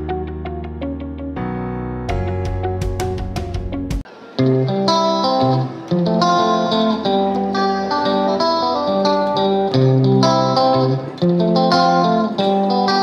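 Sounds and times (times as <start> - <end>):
plucked guitar tune: 0.0 - 13.0.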